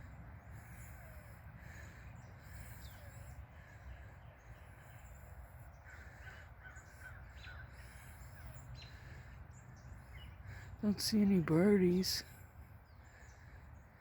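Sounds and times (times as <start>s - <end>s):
distant birds calling: 0.0s - 14.0s
harsh bird calls: 0.0s - 14.0s.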